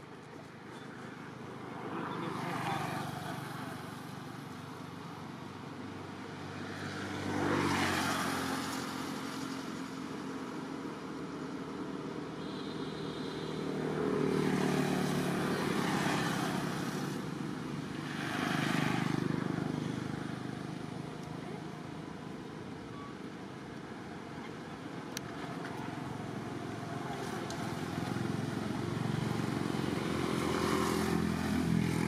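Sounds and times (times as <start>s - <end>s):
vehicles passing on road: 0.0s - 32.0s.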